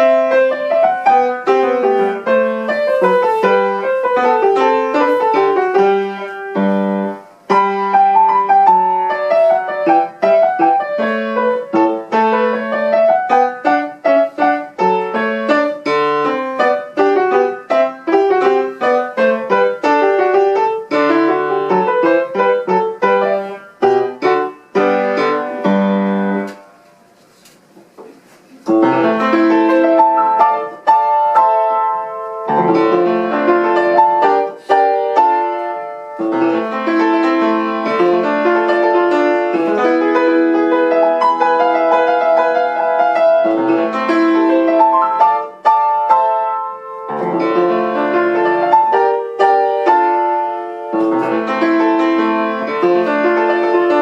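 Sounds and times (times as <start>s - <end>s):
solo piano piece: 0.0s - 27.2s, 27.9s - 54.0s.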